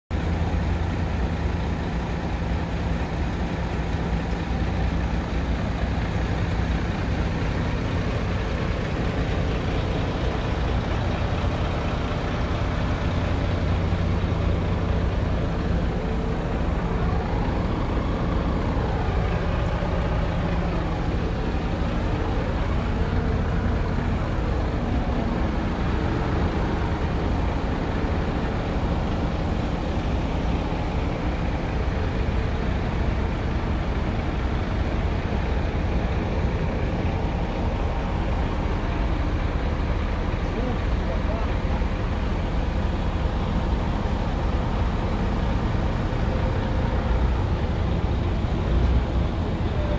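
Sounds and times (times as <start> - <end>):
diesel engine idling: 0.1 - 49.9.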